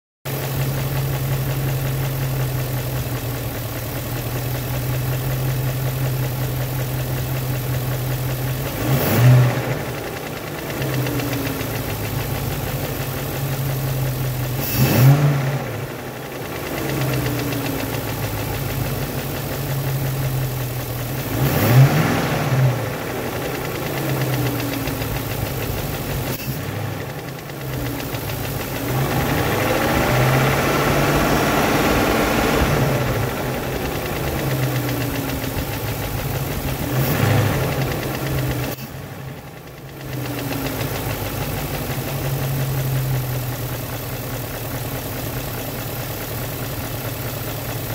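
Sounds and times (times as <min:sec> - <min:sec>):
car engine idling: 0:00.3 - 0:47.9.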